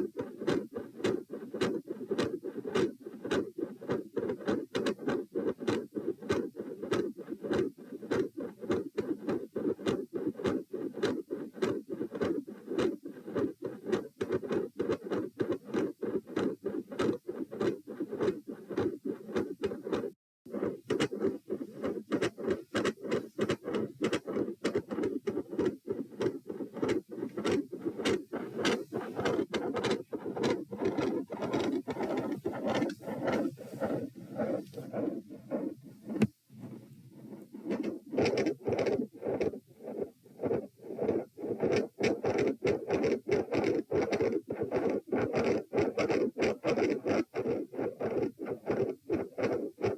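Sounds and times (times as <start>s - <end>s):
rhythmic whooshing heart pulses: 0.0s - 49.9s.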